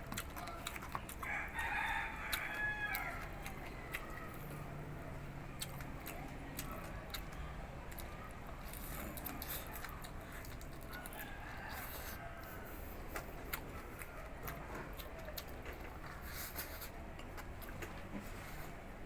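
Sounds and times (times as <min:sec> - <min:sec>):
crunching and chewing crispy food: 0:00.0 - 0:19.0.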